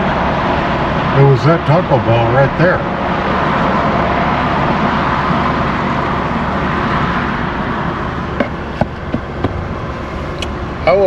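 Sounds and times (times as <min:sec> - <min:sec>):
vehicle cab rushing rumble: 0:00.0 - 0:11.0.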